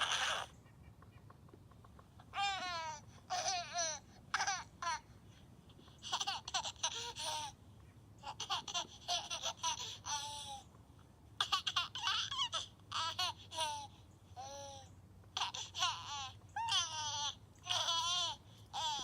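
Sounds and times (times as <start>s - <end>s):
baby laughing and babbling: 2.2s - 7.6s, 8.2s - 10.7s, 11.4s - 19.0s.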